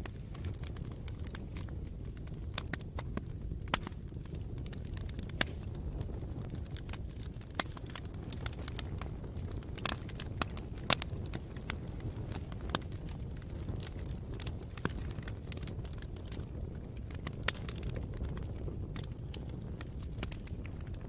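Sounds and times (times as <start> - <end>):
campfire low rumble: 0.0 - 21.0
wood crackling and popping: 0.0 - 21.0.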